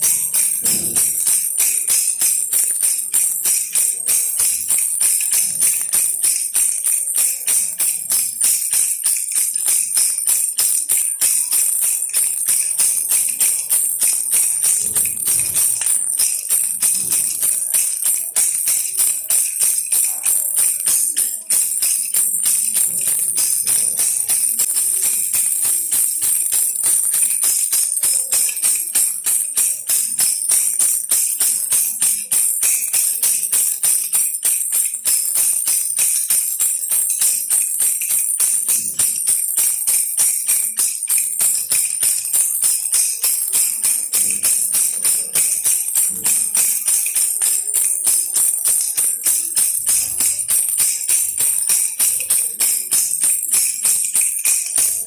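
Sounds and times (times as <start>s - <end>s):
baby rattle shaking: 0.0s - 55.0s.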